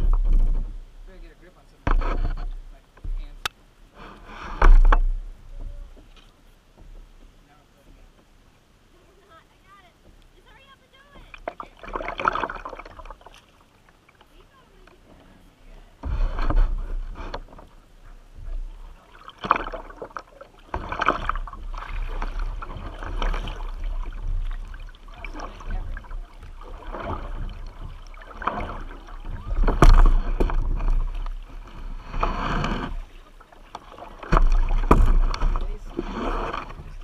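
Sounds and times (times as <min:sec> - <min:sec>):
low rumble on microphone: 0:00.0 - 0:09.2, 0:14.3 - 0:37.0
paddle strokes splashing water: 0:00.0 - 0:37.0.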